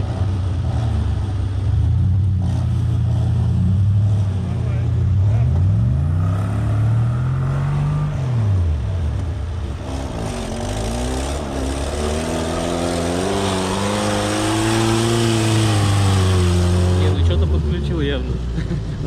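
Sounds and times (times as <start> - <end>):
off-road engine revving hard: 0.0 - 19.0.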